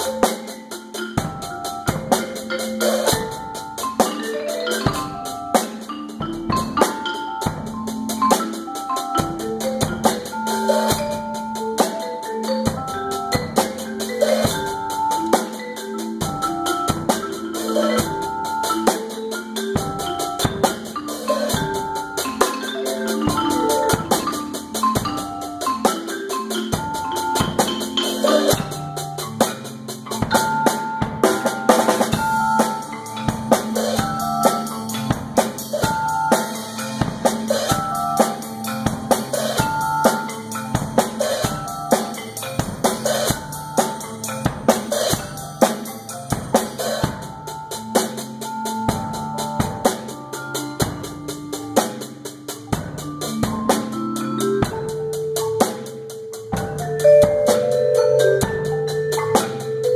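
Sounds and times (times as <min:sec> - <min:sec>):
drum kit beat: 0:00.0 - 0:59.9
marimba notes: 0:00.0 - 0:59.9.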